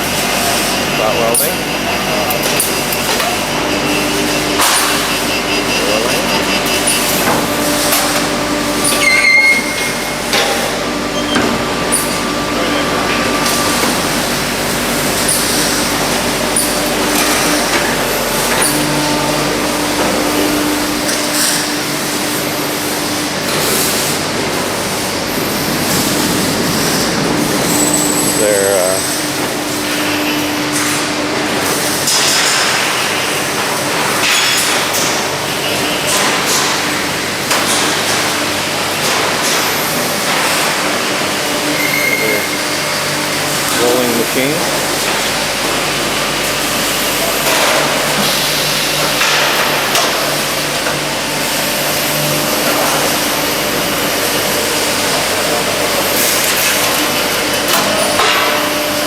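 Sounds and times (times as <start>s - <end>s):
high machine whine: 0.0s - 59.0s
machinery humming: 0.0s - 59.0s.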